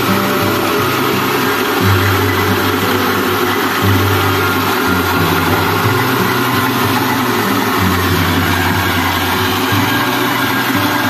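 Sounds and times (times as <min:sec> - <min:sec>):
rice milling machine running: 0:00.0 - 0:11.0
rice pouring into a bucket: 0:00.0 - 0:11.0.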